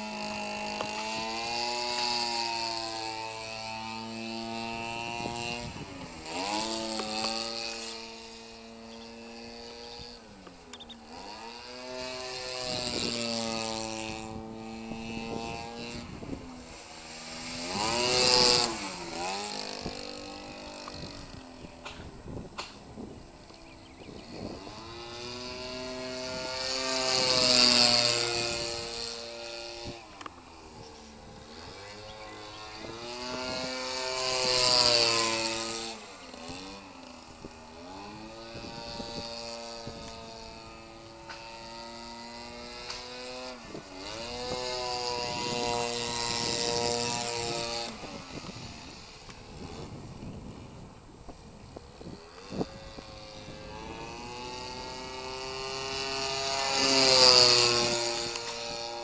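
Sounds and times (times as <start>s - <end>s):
model airplane engine flying past: 0.0s - 59.0s.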